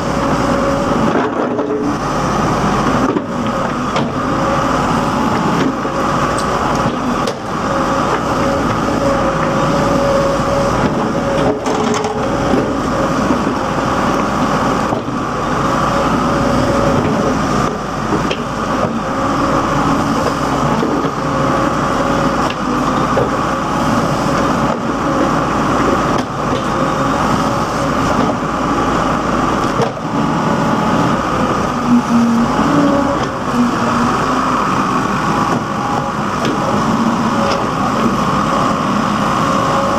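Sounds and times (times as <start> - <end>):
diesel engine running: 0.0 - 39.9
high whine: 0.0 - 39.9.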